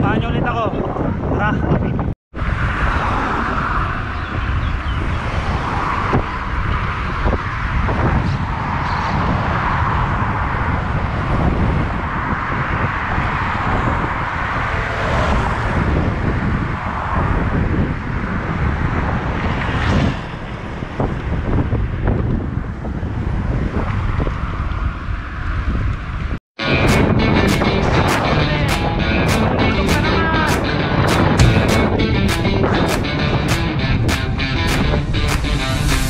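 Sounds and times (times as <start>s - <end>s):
road noise: 0.0s - 36.0s
wind buffeting microphone: 0.0s - 36.0s
passing cars: 2.4s - 36.0s.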